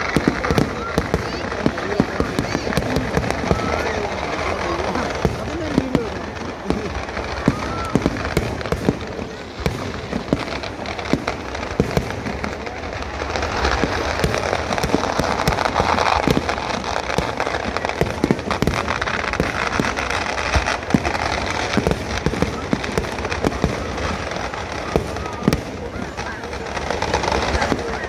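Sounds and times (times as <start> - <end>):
firework bangs and crackling: 0.0 - 28.0.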